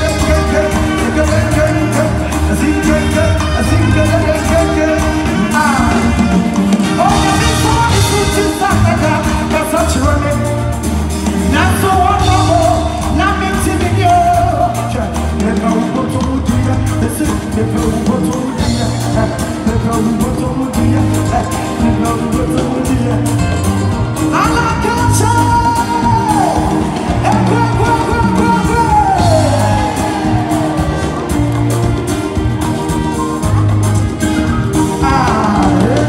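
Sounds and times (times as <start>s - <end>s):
person singing: 0.0s - 33.7s, 34.4s - 36.0s
bass-heavy beat: 0.0s - 36.0s
drums: 0.0s - 36.0s
electric guitar: 0.0s - 36.0s.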